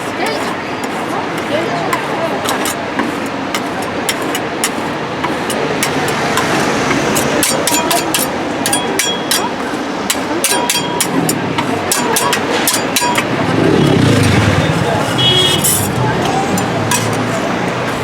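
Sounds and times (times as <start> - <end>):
street noise: 0.0 - 18.0
metal spatulas tapping on cold plate: 0.2 - 13.4, 15.6 - 18.0.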